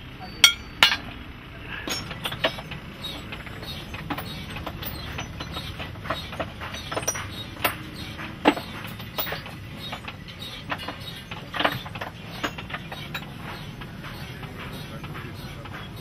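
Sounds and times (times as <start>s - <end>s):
metal tools clinking: 0.2s - 1.2s, 1.8s - 15.9s.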